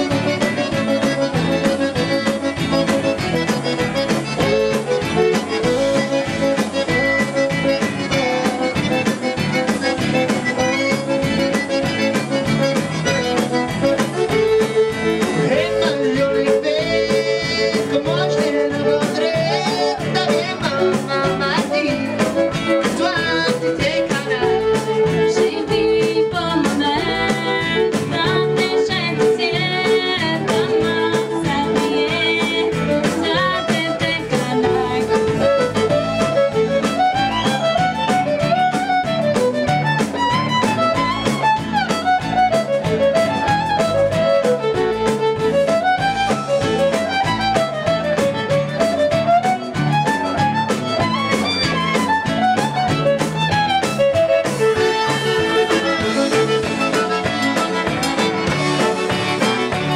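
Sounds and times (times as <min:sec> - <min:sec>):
button accordion: 0:00.0 - 0:59.9
drums: 0:00.0 - 0:59.9
fiddle: 0:00.0 - 0:59.9
guitars: 0:00.0 - 0:59.9.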